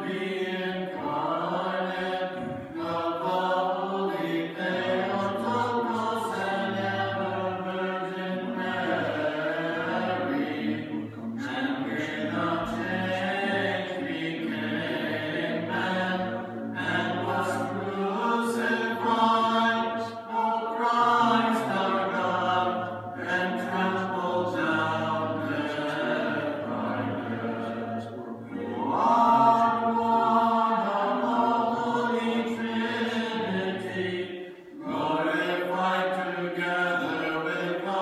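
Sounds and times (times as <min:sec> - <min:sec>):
chanters singing a cappella: 0:00.0 - 0:38.0.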